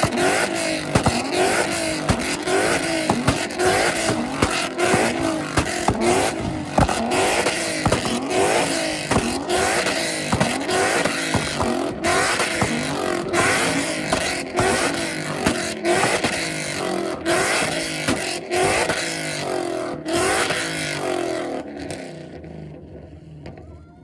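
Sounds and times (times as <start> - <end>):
car engines revving: 0.0 - 23.6.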